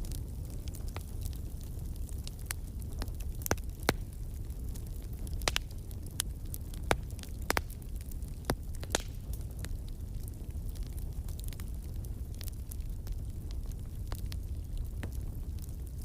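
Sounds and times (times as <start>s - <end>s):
low rumble of flames: 0.0s - 16.0s
wood fire popping: 0.0s - 16.0s.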